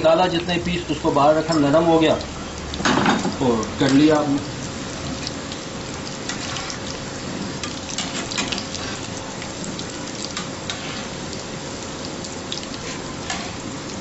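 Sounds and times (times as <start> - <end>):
fish deep-frying in oil: 0.0 - 14.0
oil crackling and popping: 0.0 - 14.0.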